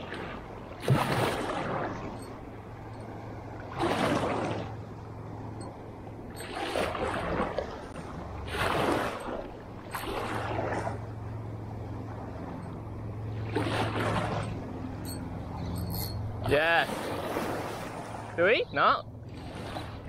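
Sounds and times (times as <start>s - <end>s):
low steady rumble: 0.0s - 20.0s
small waves splashing: 0.0s - 20.0s.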